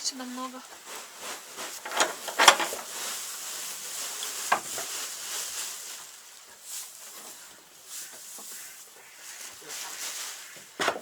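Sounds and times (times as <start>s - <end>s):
dry straw rustling and crackling: 0.0s - 11.0s.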